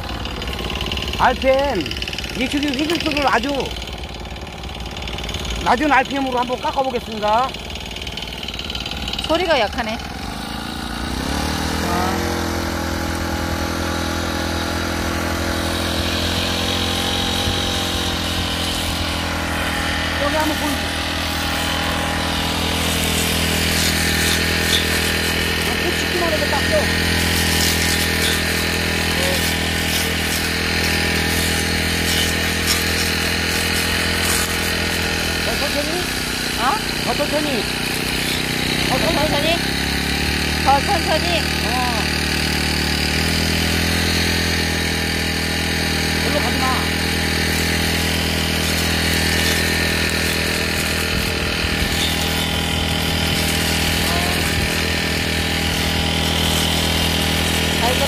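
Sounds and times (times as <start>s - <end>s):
blade cutting through weeds: 0.0s - 58.0s
brush cutter engine running: 0.0s - 58.0s.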